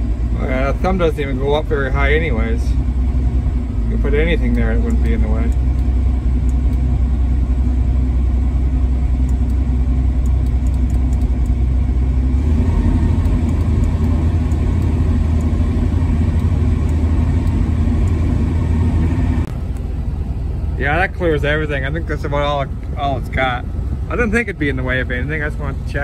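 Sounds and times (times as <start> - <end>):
excavator diesel engine running: 0.0 - 26.0
hydraulics working: 0.0 - 26.0.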